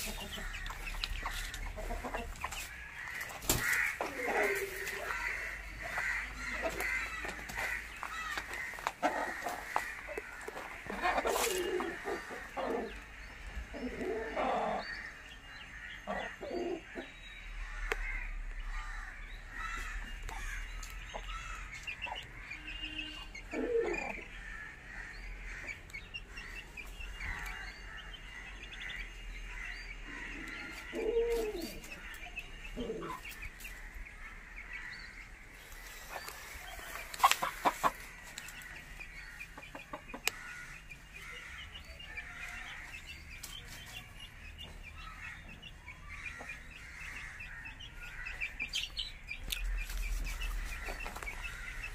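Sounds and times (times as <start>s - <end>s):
chickens clucking: 0.0s - 51.9s
small birds chirping: 0.0s - 51.9s.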